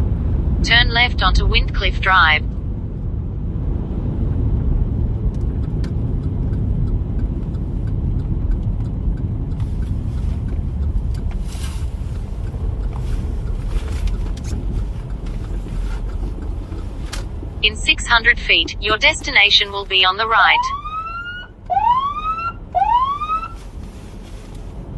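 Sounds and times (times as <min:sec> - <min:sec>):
car road and engine rumble: 0:00.0 - 0:24.9.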